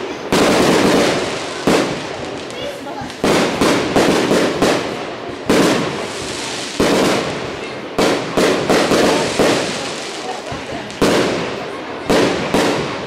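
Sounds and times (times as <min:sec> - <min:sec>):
fireworks bangs with echo: 0:00.0 - 0:13.0.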